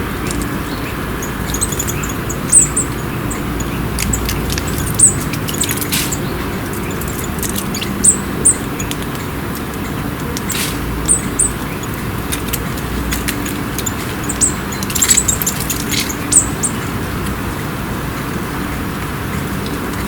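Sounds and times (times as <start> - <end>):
songbirds chirping: 0.0 - 20.0
faint clicks: 0.2 - 17.4.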